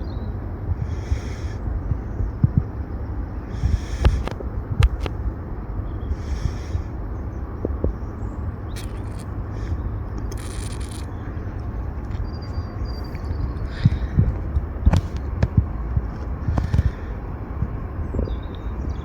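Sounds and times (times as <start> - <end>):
distant jet rumble: 0.0 - 19.0.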